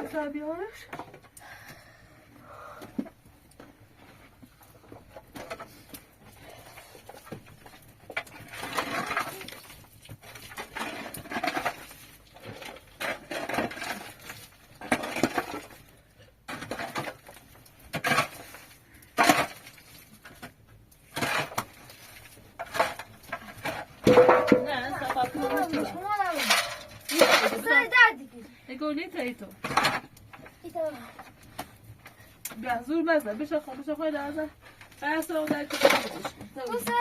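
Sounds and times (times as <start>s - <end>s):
household items clattering: 2.9s - 28.2s, 29.0s - 37.0s.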